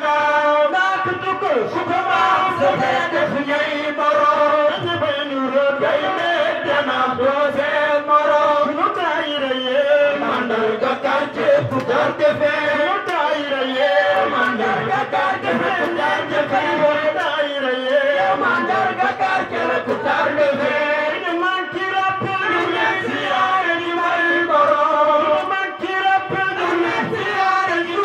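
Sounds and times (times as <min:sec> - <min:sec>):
man chanting into microphone: 0:00.0 - 0:28.0.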